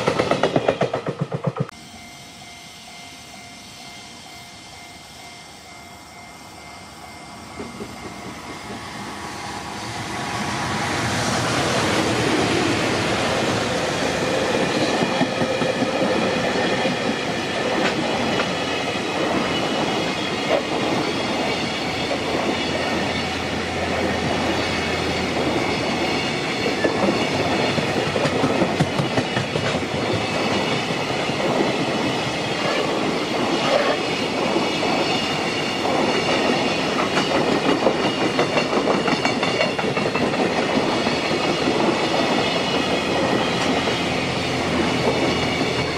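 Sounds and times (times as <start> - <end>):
freight train rolling past: 0.0 - 45.9
crossing warning bell: 1.7 - 45.9.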